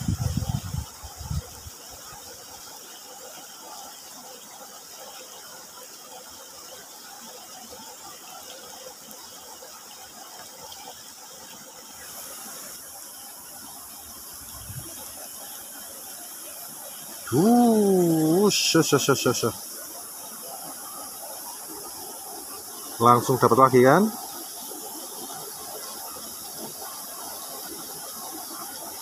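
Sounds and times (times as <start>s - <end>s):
high steady hiss: 0.0s - 29.0s
stream trickling: 0.0s - 29.0s.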